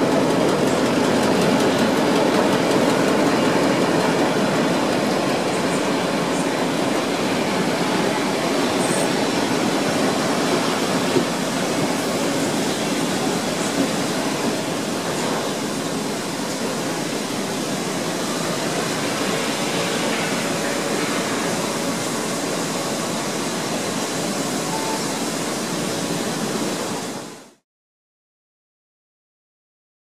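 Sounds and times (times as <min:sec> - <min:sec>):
train carriages rolling on tracks: 0:00.0 - 0:27.4.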